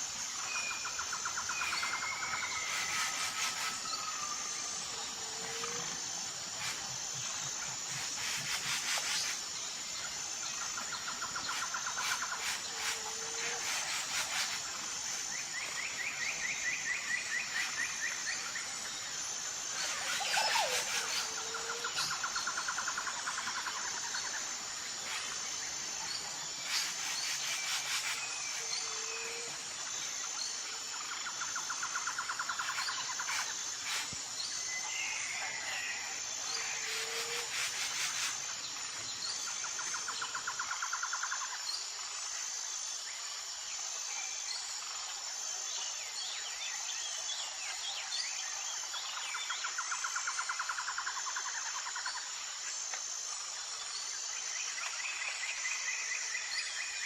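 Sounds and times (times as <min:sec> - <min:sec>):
high pulsing insect chorus: 0:00.0 - 0:57.0.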